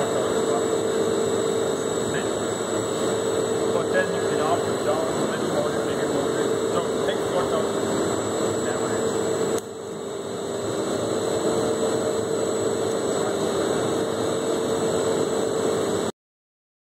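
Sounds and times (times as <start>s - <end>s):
mixer motor hum with high whine: 0.0s - 16.2s.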